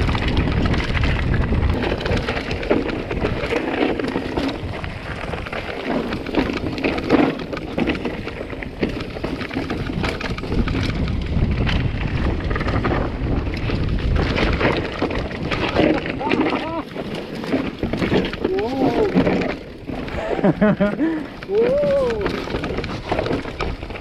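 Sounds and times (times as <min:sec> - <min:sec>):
bike rattling: 0:00.0 - 0:24.0
tyres crunching over stones: 0:00.0 - 0:24.0
wind buffeting microphone: 0:00.0 - 0:24.0.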